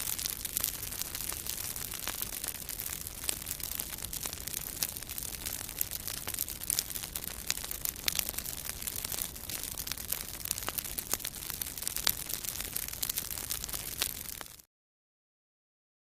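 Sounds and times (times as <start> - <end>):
campfire crackling: 0.0 - 14.7
wood popping and snapping: 0.2 - 14.5.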